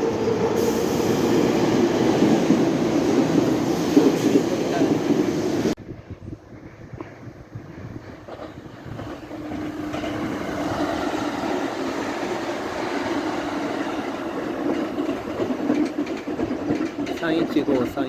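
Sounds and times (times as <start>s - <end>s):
electric train rumbling past: 0.0s - 18.0s.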